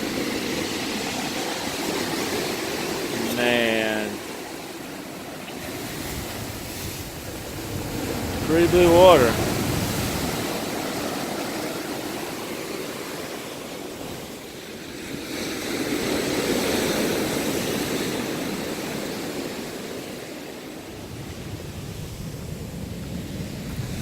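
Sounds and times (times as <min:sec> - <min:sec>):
ocean waves washing ashore: 0:00.0 - 0:24.0.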